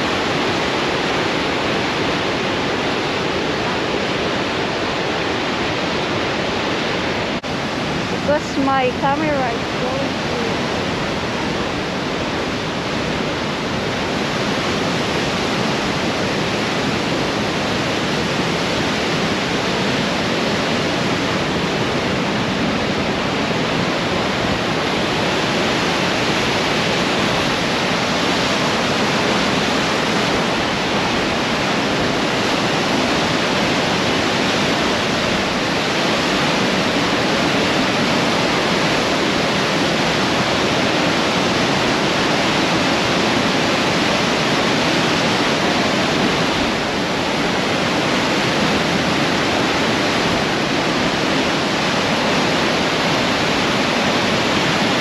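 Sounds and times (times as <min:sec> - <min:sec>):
whitewater rushing: 0:00.0 - 0:55.0.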